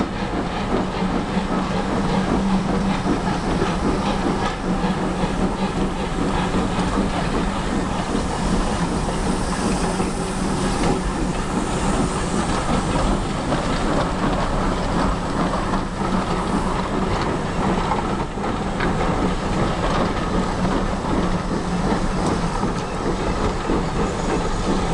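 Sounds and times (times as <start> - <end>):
train rumble: 0.0 - 24.9
train wheels clacking over rail joints: 0.0 - 24.9.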